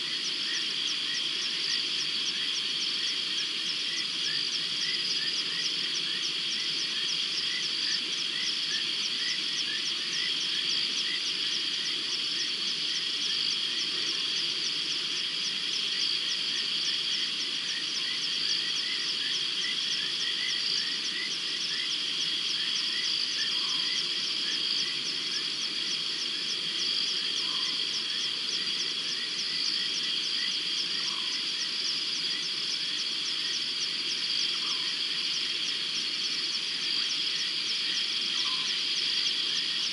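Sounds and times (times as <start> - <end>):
frogs and insects trilling: 0.0 - 39.9.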